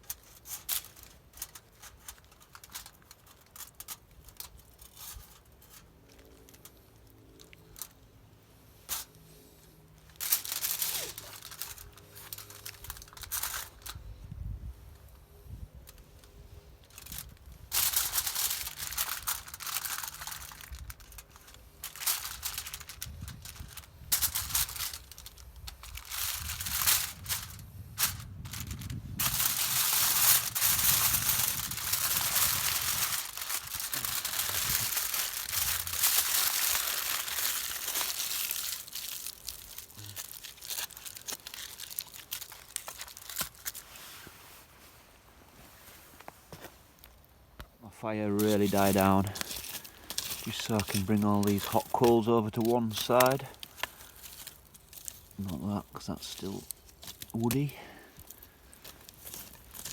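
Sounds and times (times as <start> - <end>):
aluminium foil crinkling: 0.0 - 8.2, 8.8 - 9.1, 10.0 - 14.1, 14.9 - 44.7, 48.3 - 59.9.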